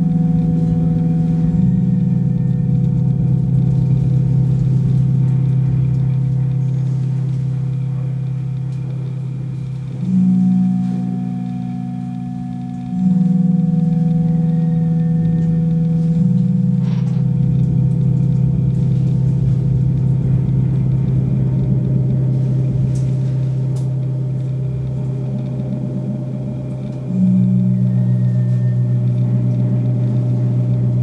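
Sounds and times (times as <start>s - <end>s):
low electronic drone: 0.0s - 31.0s.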